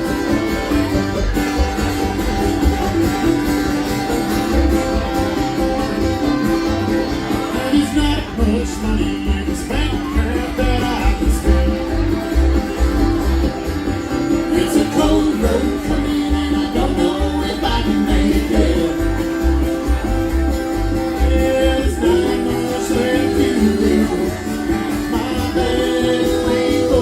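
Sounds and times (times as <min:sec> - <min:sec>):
plucked acoustic guitar: 0:00.0 - 0:27.0.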